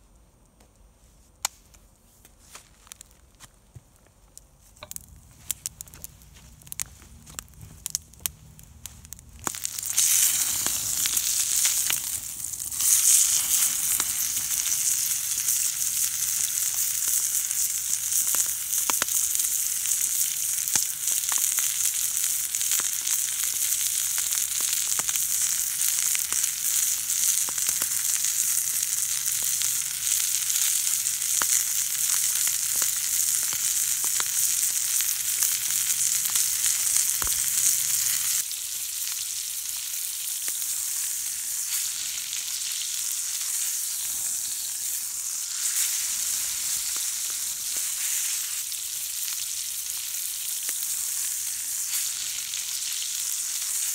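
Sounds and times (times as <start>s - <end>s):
steak sizzling in a frying pan: 9.0s - 53.9s.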